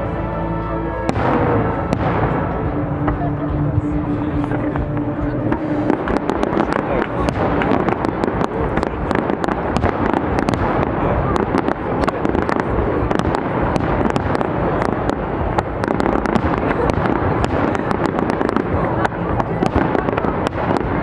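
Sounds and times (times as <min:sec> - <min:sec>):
fireworks bursting and crackling: 0:01.1 - 0:21.0.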